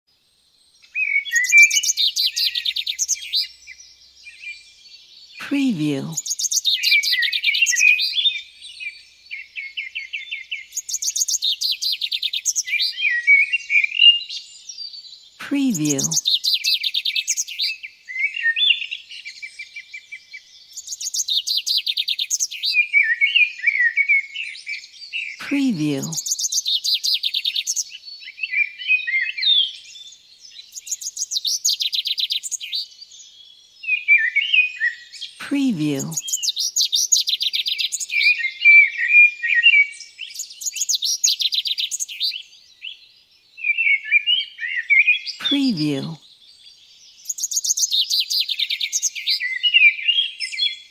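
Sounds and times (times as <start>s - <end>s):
songbirds chirping and trilling: 0.1s - 50.9s.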